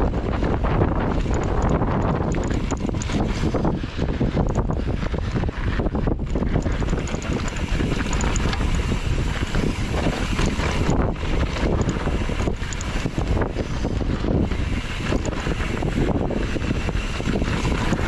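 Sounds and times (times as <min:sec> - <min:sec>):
wind buffeting microphone: 0:00.0 - 0:18.0
bike knocking over trail: 0:00.6 - 0:18.0.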